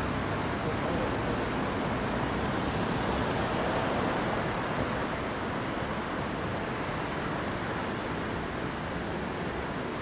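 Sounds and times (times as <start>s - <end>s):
road traffic hiss and rumble: 0.0s - 10.0s.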